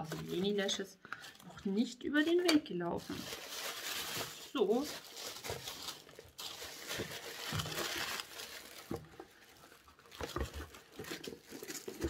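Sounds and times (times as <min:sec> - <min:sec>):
packaging crinkling and rustling: 0:02.3 - 0:12.0.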